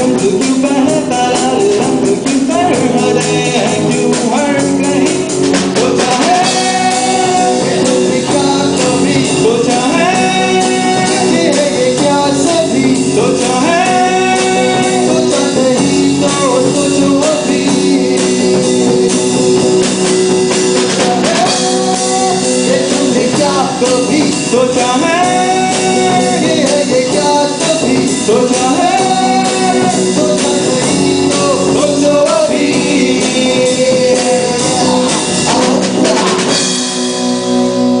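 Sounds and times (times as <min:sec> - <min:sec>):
bending lead melody: 0:00.0 - 0:38.0
drums: 0:00.0 - 0:38.0
guitar: 0:00.0 - 0:38.0.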